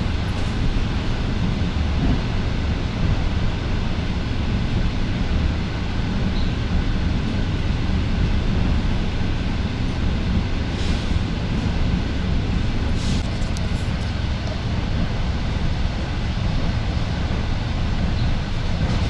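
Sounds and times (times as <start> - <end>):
train carriage rumbling on track: 0.0 - 19.0.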